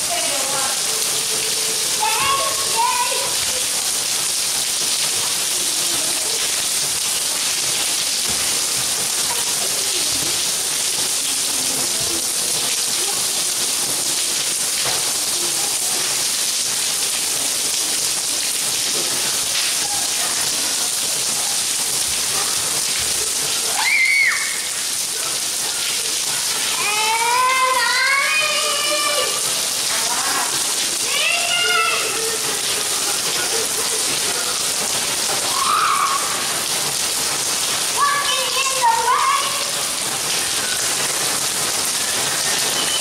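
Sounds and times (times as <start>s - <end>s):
rain falling on paving: 0.0s - 43.0s.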